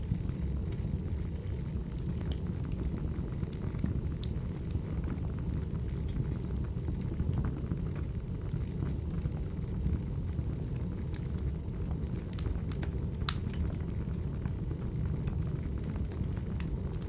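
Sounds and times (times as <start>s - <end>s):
fire crackles and pops: 0.0s - 17.0s
wood fire rumbling: 0.0s - 17.0s.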